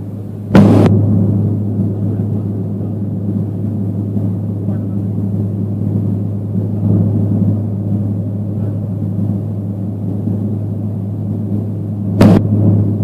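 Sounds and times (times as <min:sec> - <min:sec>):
vehicle cabin drone: 0:00.0 - 0:13.0.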